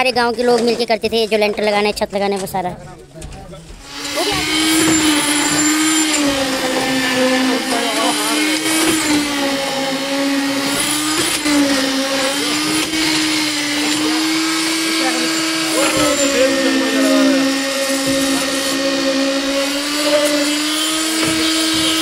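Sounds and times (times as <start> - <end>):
concrete vibrator motor whine: 3.5 - 22.0.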